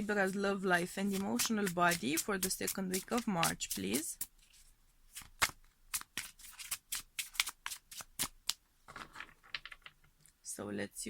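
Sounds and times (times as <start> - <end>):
cards being shuffled: 0.0 - 9.9.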